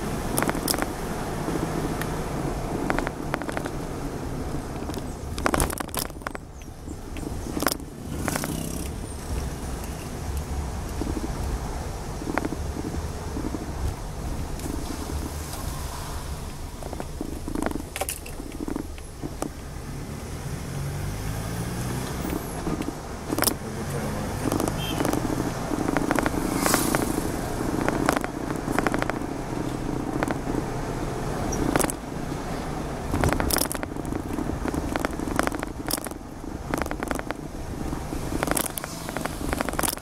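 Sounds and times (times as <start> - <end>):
car engine revving: 0.0 - 40.0
road rumble: 0.0 - 40.0.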